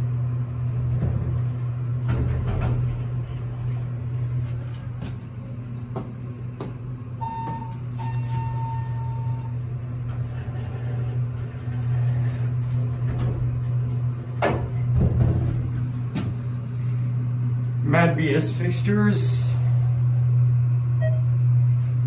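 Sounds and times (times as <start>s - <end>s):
elevator humming: 0.0s - 22.0s.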